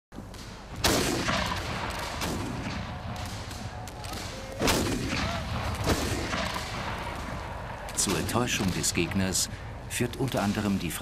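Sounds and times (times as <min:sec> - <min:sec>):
cannon report: 0:00.2 - 0:11.0
scattered gunshots: 0:00.8 - 0:11.0.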